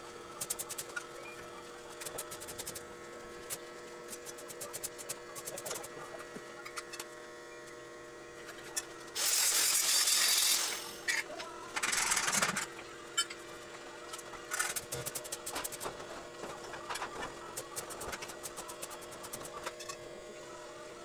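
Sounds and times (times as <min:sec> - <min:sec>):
welding arc sizzling: 0:00.0 - 0:07.1, 0:08.4 - 0:20.0.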